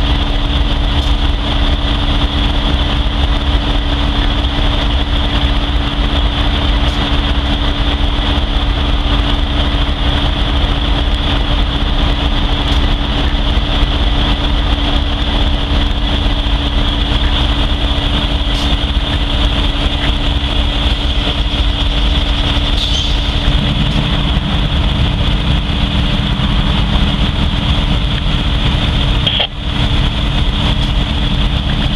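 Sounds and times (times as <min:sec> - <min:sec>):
constant high whine: 0:00.0 - 0:31.9
diesel locomotives idling: 0:00.0 - 0:31.9.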